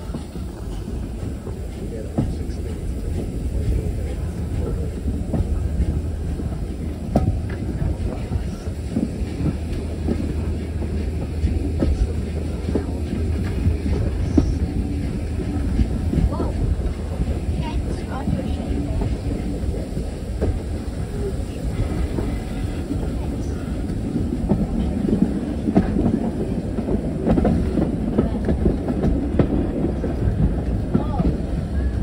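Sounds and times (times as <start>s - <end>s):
train carriage rumble: 0.0s - 32.0s
wheels clicking on track: 0.0s - 32.0s.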